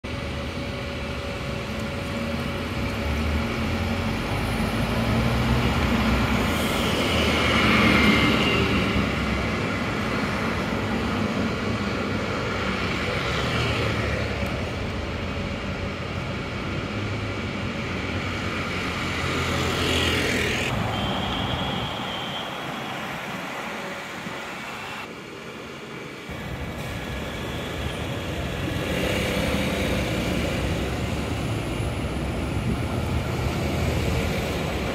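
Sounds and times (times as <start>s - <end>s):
buses driving past: 0.0s - 34.9s
tyre and road noise: 0.1s - 25.1s, 26.0s - 34.9s.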